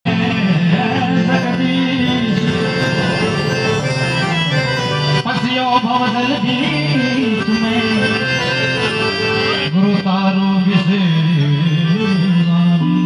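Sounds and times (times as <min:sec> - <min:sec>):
man singing into microphone: 0:00.1 - 0:03.6, 0:05.1 - 0:13.0
harmonium: 0:00.1 - 0:13.0.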